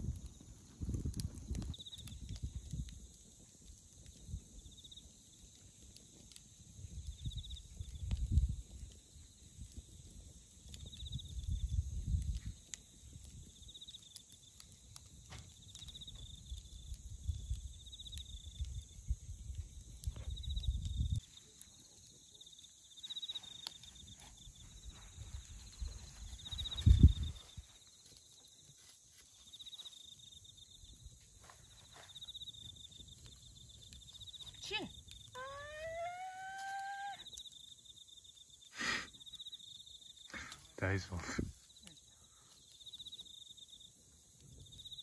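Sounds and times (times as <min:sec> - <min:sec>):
bonfire crackling and popping: 0:00.0 - 0:45.0
insects chirping in trills: 0:00.0 - 0:45.0.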